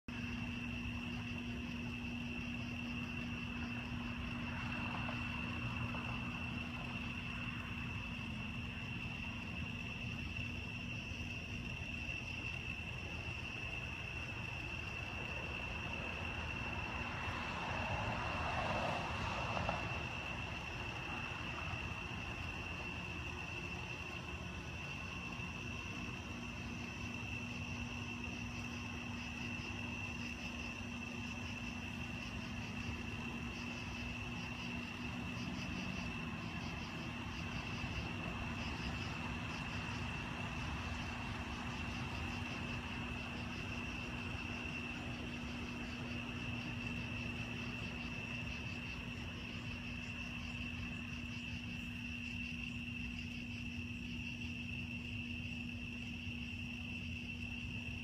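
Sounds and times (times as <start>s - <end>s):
constant low hum: 0.0s - 58.0s
insect chorus: 0.0s - 58.0s
distant engine passing: 0.3s - 10.0s, 13.7s - 52.1s.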